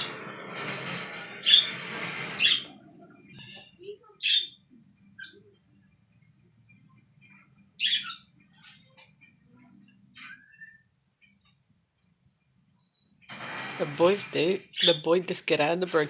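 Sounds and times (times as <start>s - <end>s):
cage birds chirping: 0.8s - 15.4s.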